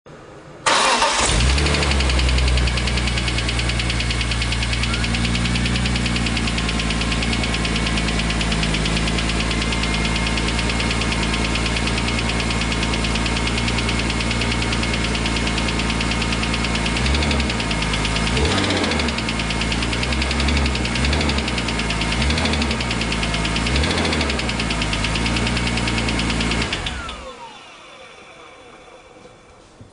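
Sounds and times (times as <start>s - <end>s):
engine revving: 0.7s - 28.0s
car engine idling with knocking: 1.8s - 27.8s.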